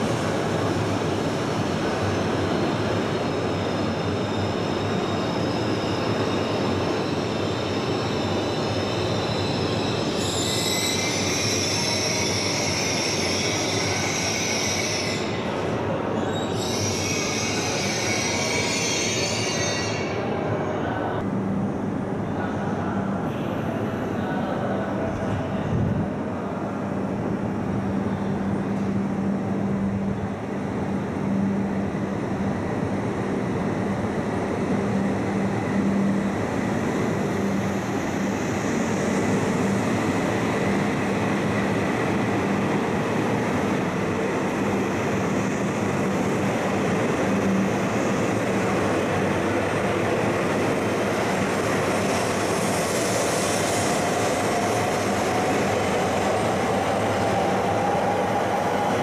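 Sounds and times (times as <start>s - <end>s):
rising train whine: 0.0s - 59.0s
train rumbling past: 0.0s - 59.0s.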